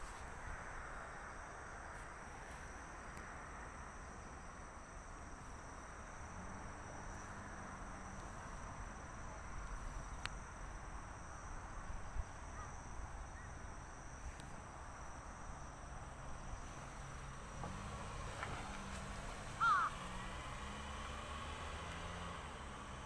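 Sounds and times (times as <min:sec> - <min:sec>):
insect trill: 0:03.3 - 0:23.0.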